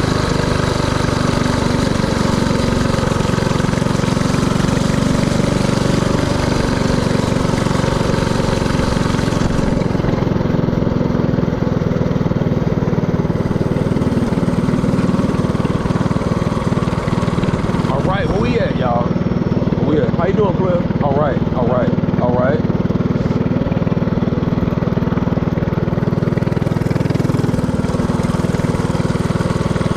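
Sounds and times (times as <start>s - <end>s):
mini-bike engine running: 0.0s - 29.9s.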